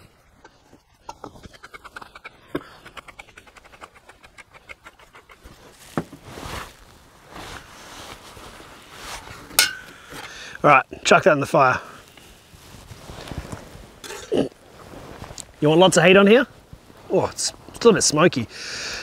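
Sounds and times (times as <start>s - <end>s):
rustling: 0.0s - 10.4s, 11.0s - 18.0s.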